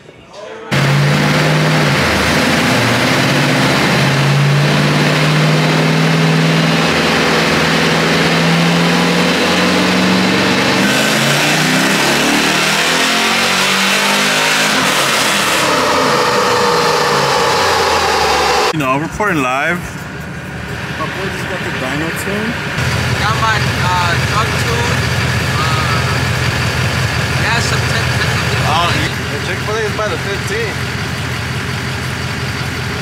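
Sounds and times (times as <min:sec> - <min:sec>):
truck engine running under load: 0:00.7 - 0:33.0.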